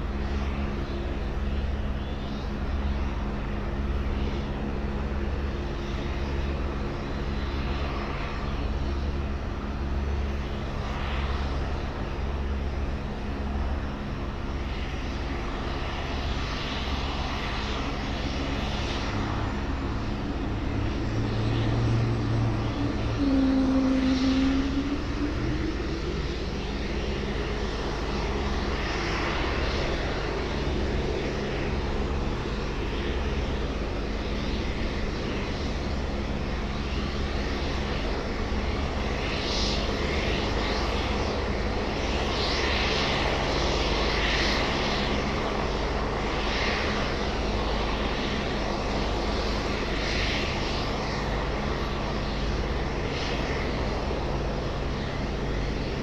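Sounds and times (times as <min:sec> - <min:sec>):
helicopter engines humming: 0:00.0 - 0:56.0.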